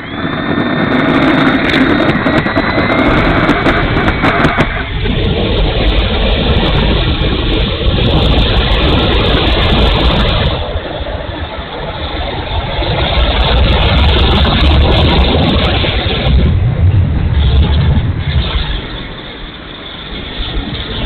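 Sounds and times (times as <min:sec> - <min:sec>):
model plane motor and propeller: 0:00.0 - 0:16.5, 0:17.3 - 0:21.0
wind rush on microphone: 0:00.0 - 0:21.0.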